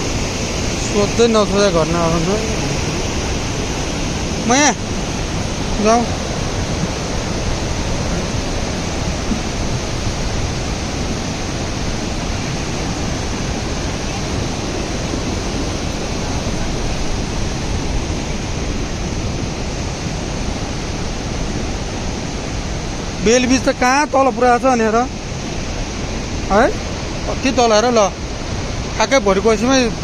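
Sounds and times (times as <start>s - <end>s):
fast-flowing stream rushing: 0.0s - 30.0s.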